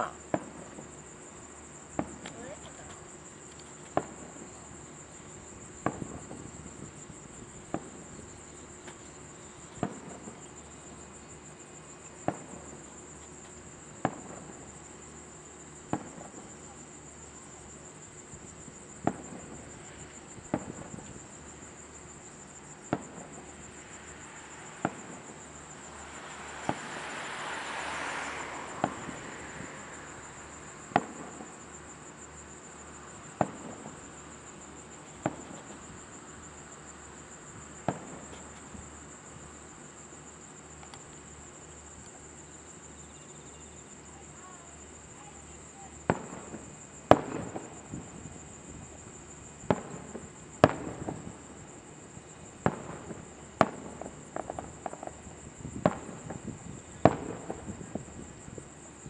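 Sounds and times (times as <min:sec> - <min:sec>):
fireworks booming: 0:00.0 - 0:39.8, 0:44.4 - 0:59.0
fireworks hissing: 0:00.0 - 0:41.3, 0:45.2 - 0:59.0
insects chirring: 0:00.0 - 0:59.0.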